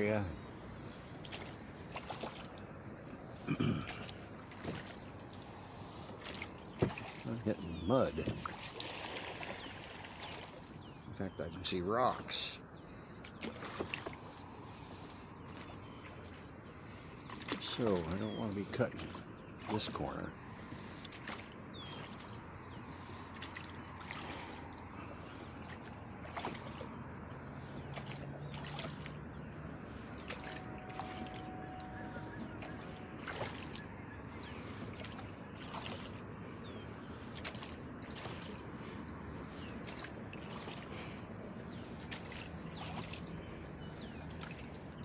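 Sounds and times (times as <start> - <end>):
oars dipping and dripping: 0.0 - 45.0
water lapping at hull: 0.0 - 45.0.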